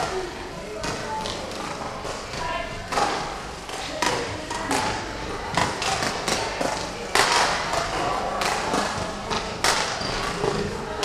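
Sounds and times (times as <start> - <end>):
rackets hitting shuttlecock: 0.8 - 10.7.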